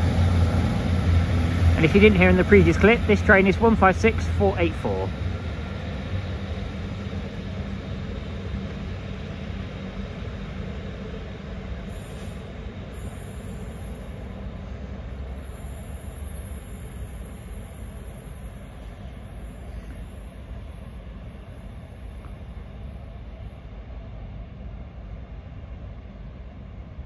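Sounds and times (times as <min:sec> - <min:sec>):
diesel train engines pulling away: 0:00.0 - 0:27.0.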